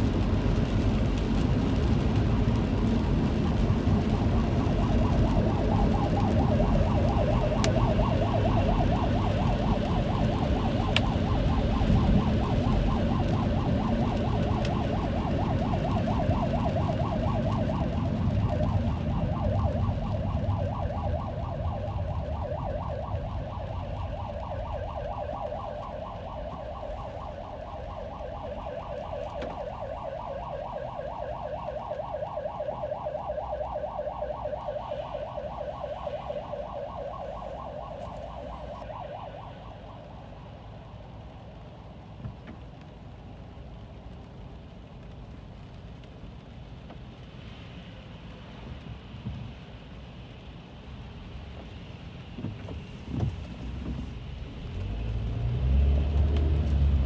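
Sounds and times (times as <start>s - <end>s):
emergency siren warbling: 0.0s - 41.7s, 52.6s - 57.0s
low road rumble: 0.0s - 57.0s.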